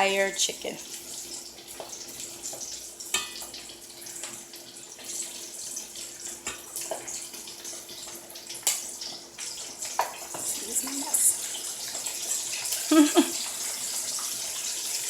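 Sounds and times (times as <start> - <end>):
chicken frying in oil: 0.0 - 15.0.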